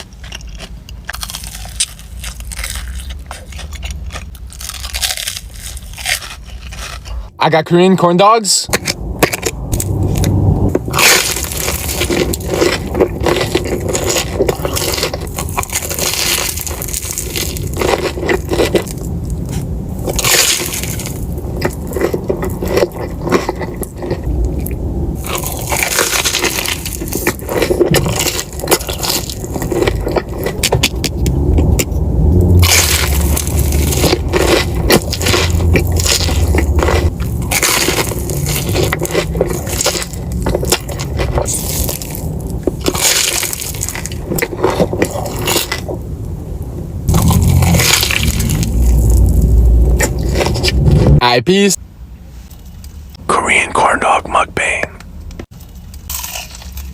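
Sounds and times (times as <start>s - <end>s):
crunchy eating and chewing: 0.0s - 7.4s, 8.7s - 46.1s, 47.0s - 51.2s, 53.6s - 56.9s.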